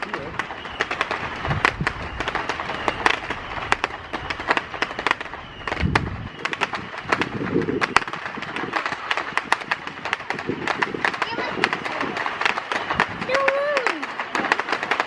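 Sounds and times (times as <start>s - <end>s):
fireworks popping and cracking: 0.0s - 15.0s.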